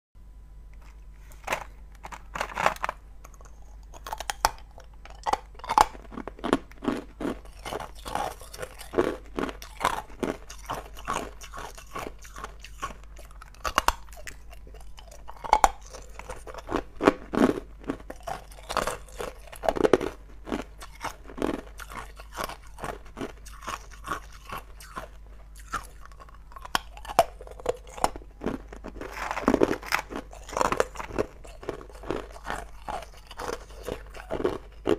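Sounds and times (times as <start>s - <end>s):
ice cubes crunching between teeth: 0.8s - 34.9s.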